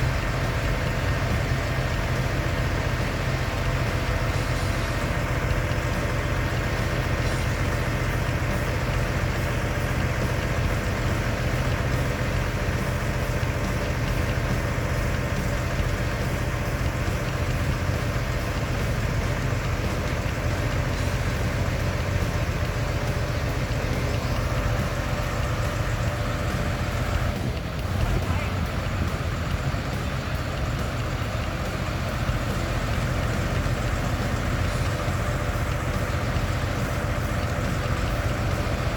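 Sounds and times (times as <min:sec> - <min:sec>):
heavy vehicle engine idling: 0:00.0 - 0:38.9.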